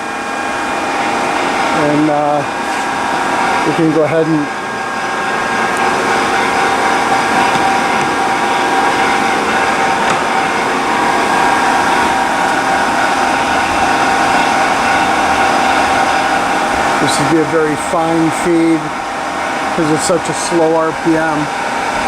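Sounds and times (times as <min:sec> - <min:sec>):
drill machine whining and humming: 0:00.0 - 0:22.0.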